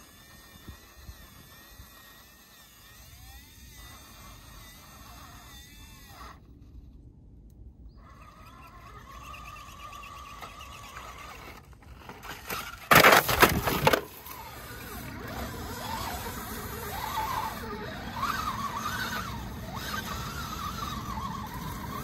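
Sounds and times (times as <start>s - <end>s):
rc car motor whining: 0.0s - 6.9s, 7.9s - 22.0s.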